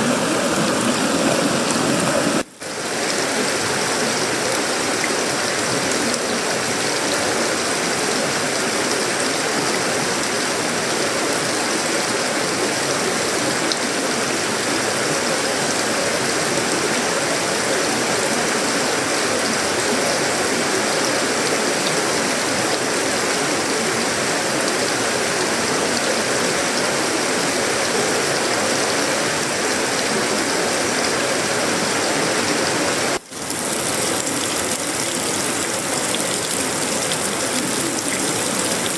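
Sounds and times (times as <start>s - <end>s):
heavy rain on metal roof: 0.0s - 38.9s.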